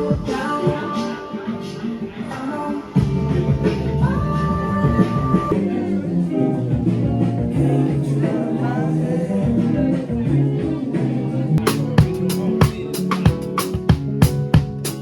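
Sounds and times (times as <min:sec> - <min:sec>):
person singing: 0:00.0 - 0:13.6
guitar: 0:00.0 - 0:15.0.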